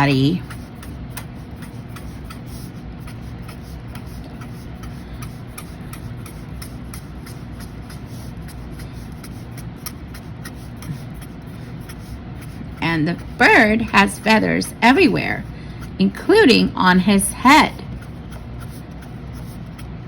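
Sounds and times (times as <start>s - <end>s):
marker scratching on paper: 0.0s - 20.0s.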